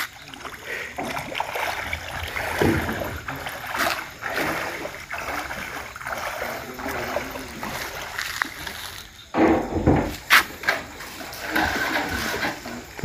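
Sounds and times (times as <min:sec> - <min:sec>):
floodwater sloshing: 0:00.0 - 0:13.0.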